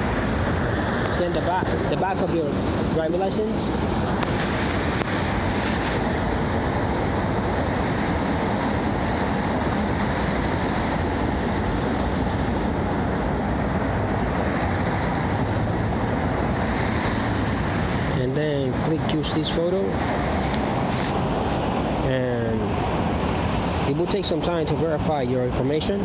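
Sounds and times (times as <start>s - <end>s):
street traffic rumble: 0.0s - 26.0s.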